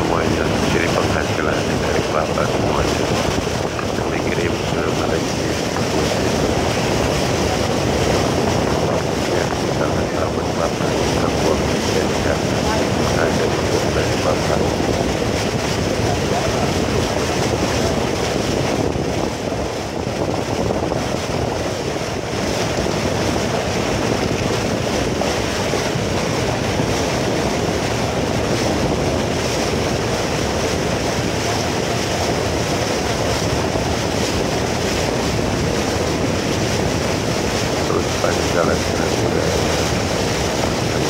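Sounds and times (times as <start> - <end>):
speedboat engine and water rush: 0.0 - 41.0
wind buffeting microphone: 0.0 - 41.0.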